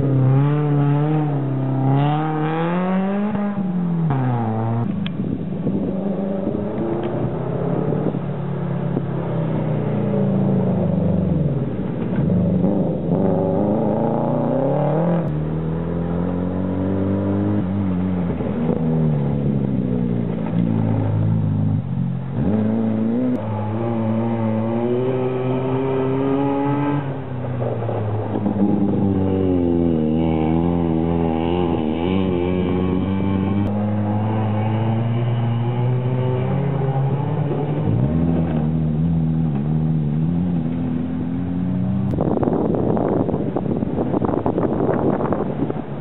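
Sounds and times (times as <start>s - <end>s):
rally car engine revving: 0.0s - 46.0s.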